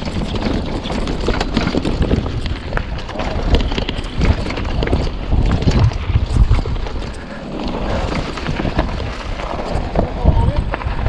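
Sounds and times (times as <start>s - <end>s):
mountain bike rattling on trail: 0.0s - 11.0s
wind buffeting microphone: 0.0s - 11.0s.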